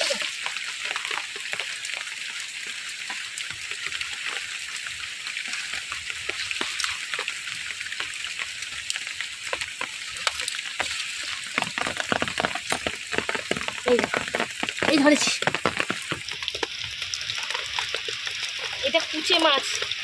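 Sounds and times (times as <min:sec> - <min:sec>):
small splashes and clicks: 0:00.0 - 0:20.0.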